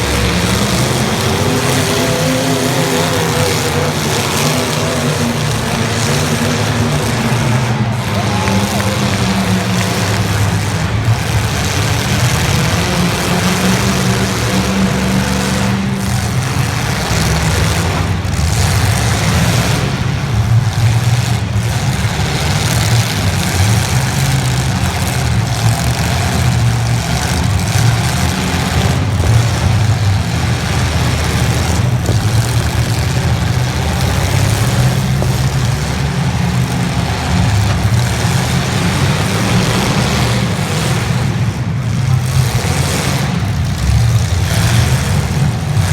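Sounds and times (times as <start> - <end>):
car engines revving: 0.0 - 45.9.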